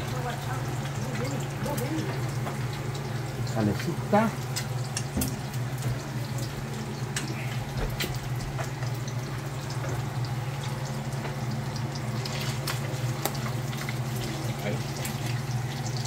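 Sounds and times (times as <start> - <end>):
eggs frying in crackling oil: 0.0 - 16.0.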